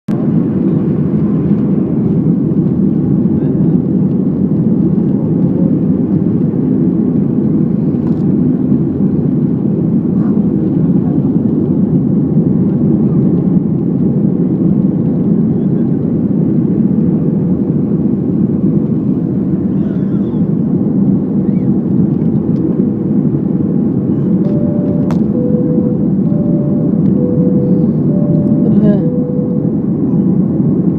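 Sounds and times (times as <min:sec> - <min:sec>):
airliner engine and airflow rumble: 0:00.1 - 0:30.9
faint constant hum: 0:00.2 - 0:30.9.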